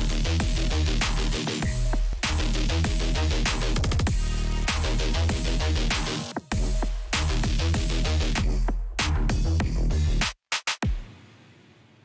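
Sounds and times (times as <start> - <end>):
electronic music with heavy bass: 0.0 - 11.1.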